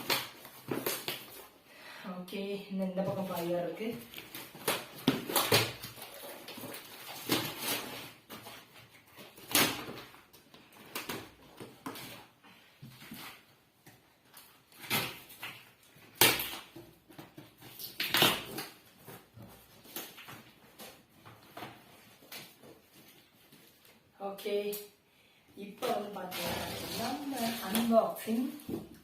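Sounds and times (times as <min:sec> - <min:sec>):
cardboard and plastic rustling: 0:00.0 - 0:01.6, 0:02.9 - 0:24.6, 0:25.8 - 0:29.0.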